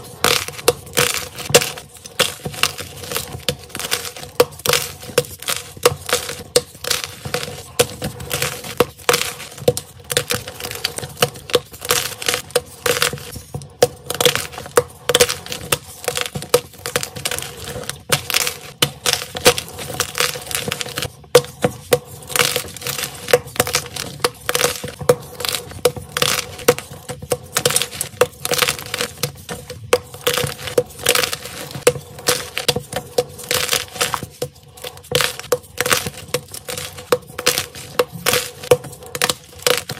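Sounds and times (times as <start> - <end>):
chalk cracking and crunching: 0.0 - 39.9.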